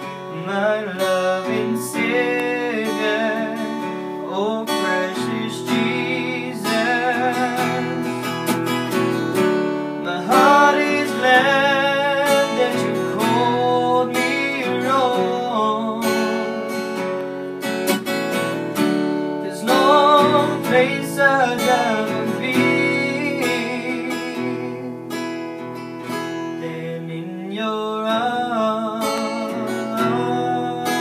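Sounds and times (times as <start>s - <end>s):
man singing: 0.0s - 8.6s, 9.3s - 17.0s, 19.2s - 25.3s, 26.0s - 31.0s
acoustic guitar strummed: 0.0s - 31.0s.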